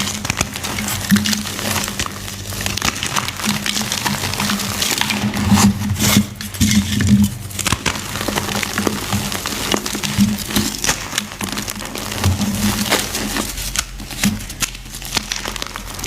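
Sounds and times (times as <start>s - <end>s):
chalk crushing and crumbling: 0.0s - 16.0s
steady low hum: 0.0s - 16.0s.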